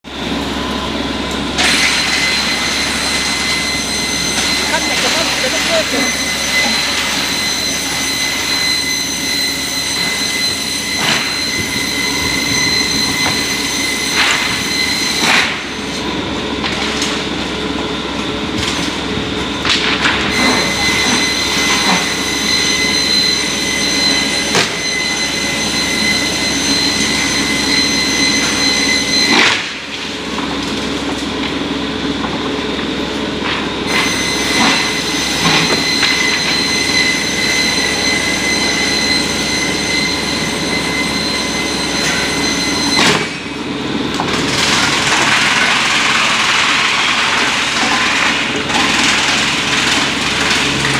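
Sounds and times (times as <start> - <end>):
rip saw running with high whine: 0.1 - 18.2, 18.9 - 30.2, 33.7 - 50.9.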